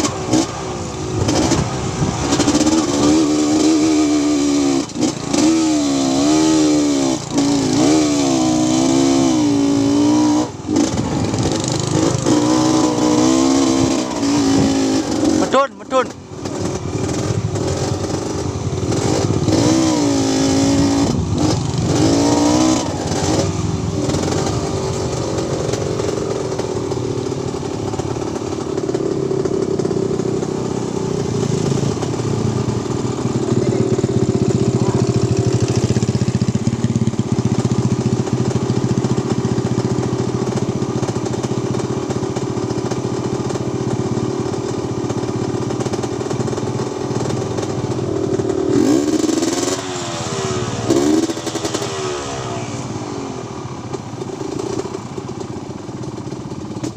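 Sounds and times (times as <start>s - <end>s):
small motorcycle engine running: 0.0s - 56.9s.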